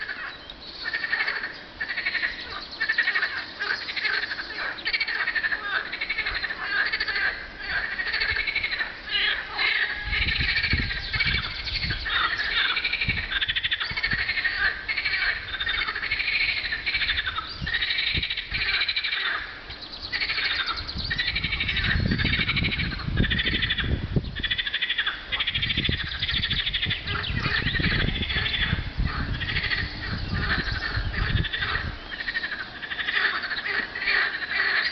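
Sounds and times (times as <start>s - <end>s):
frogs croaking in chorus: 0.0s - 34.9s.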